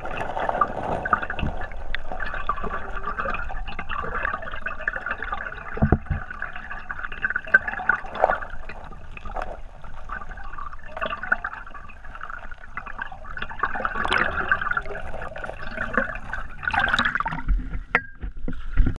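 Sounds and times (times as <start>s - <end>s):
water splashing: 0.0s - 18.0s
muffled underwater water rush: 0.0s - 18.9s.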